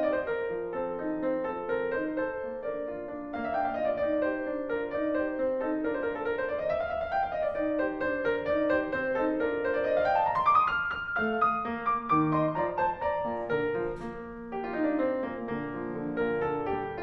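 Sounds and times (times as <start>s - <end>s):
classical piano music: 0.0s - 17.0s.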